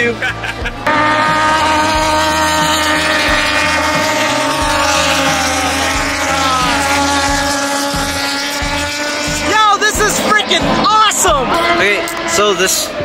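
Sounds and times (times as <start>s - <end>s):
high-revving motorcycle engines: 0.0s - 13.0s.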